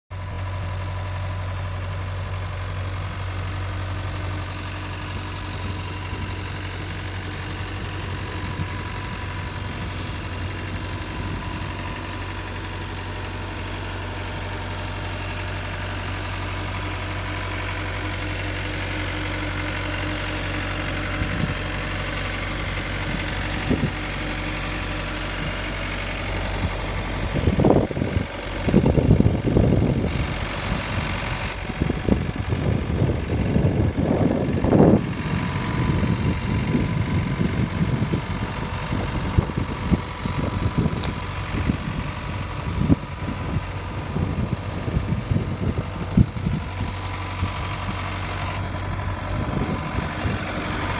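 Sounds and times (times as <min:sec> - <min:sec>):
diesel engine idling: 0:00.1 - 0:50.9.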